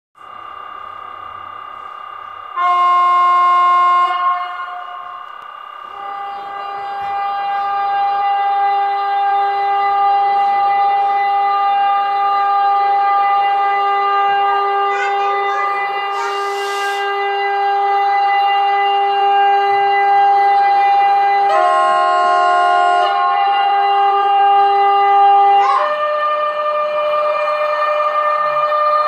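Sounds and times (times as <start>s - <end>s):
steady pitched hum: 0.2s - 28.1s.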